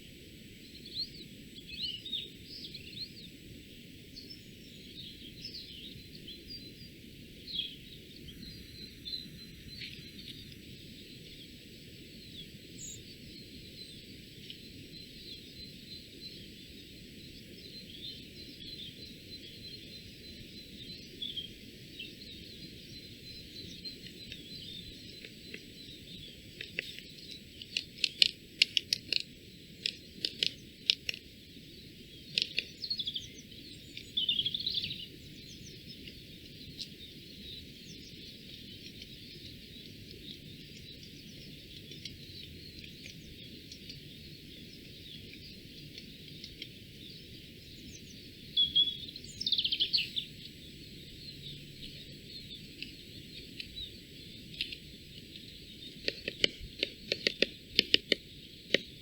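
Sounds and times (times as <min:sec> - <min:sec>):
birds chirping: 0:00.5 - 0:59.0
birds ticking calls: 0:00.6 - 0:59.0.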